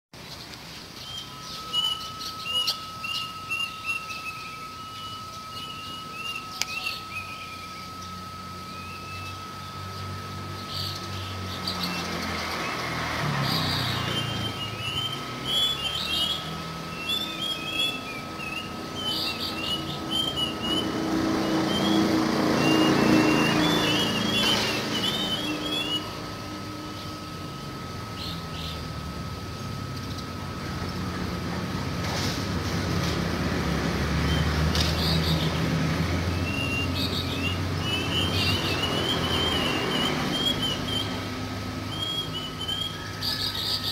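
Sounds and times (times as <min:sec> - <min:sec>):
cuckoo calling: 0:00.3 - 0:32.0, 0:33.4 - 0:43.9
vehicle engine rumbling: 0:04.5 - 0:43.9.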